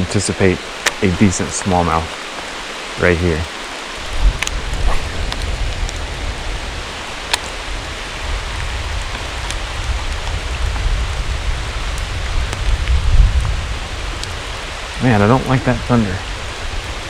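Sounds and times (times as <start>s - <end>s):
creek water running: 0.0s - 17.0s
rain hissing: 0.0s - 17.0s.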